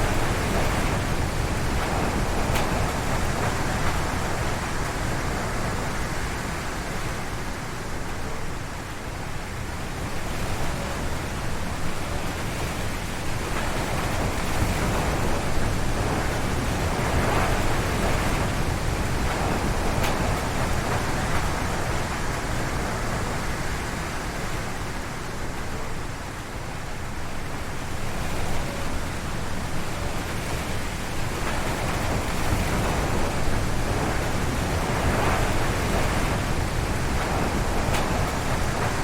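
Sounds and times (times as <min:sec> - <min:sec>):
wind gusting through trees: 0:00.0 - 0:39.0.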